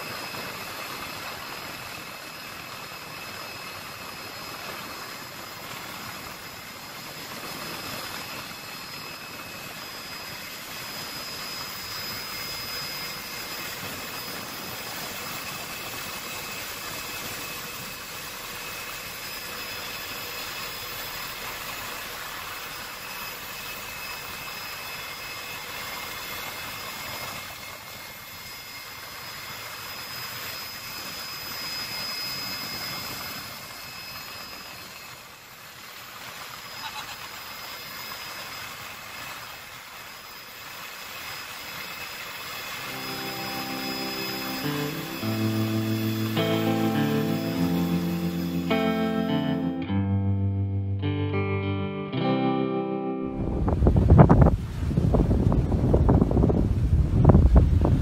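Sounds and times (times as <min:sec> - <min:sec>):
faint high whine: 0:00.0 - 0:58.0
helicopter engine and rotor: 0:00.0 - 0:58.0.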